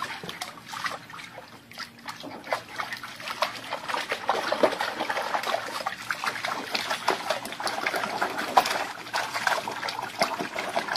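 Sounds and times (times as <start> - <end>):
water splashing and trickling: 0.0 - 10.9.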